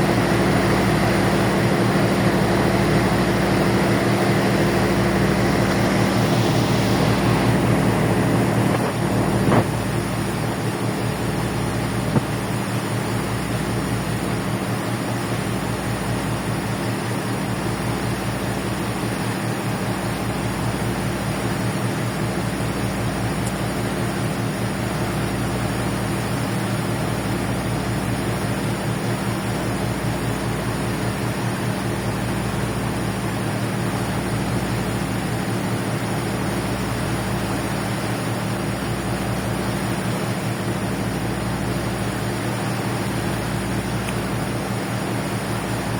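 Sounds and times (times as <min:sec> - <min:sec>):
ferry engines droning: 0:00.0 - 0:45.9.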